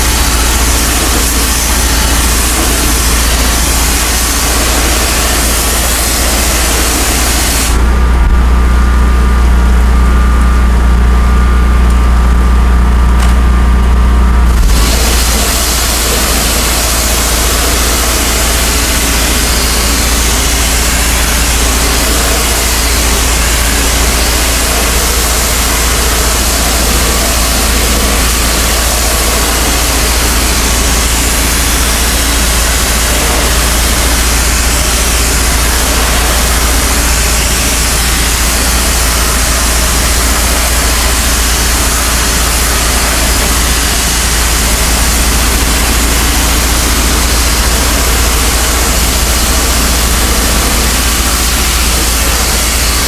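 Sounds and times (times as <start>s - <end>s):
high-pressure water jet hissing: 0.0s - 8.6s, 14.5s - 53.0s
pressure washer engine drone: 0.0s - 53.0s.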